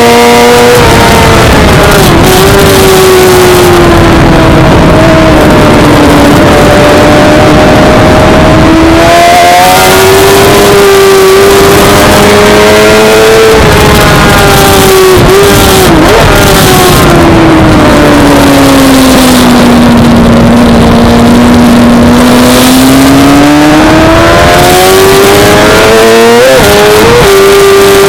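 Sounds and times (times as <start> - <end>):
motorcycle engine running hard: 0.0 - 28.0
steady rush of noise: 0.0 - 28.0.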